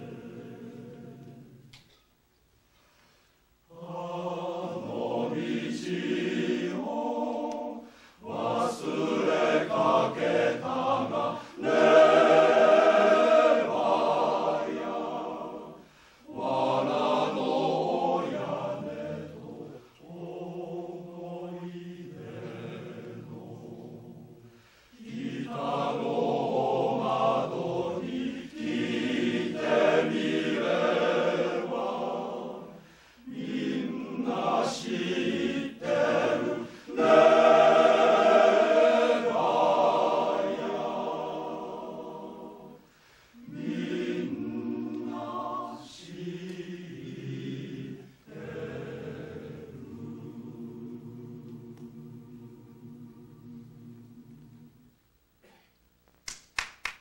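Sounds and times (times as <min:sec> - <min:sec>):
male choir singing in harmony: 0:00.0 - 0:01.7, 0:03.7 - 0:54.9.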